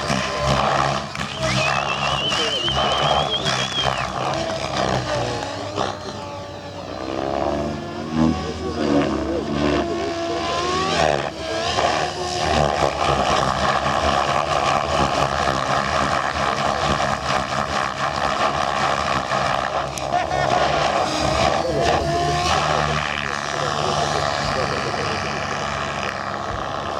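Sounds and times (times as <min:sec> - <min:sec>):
rc helicopter rotor whine: 0:00.0 - 0:26.9.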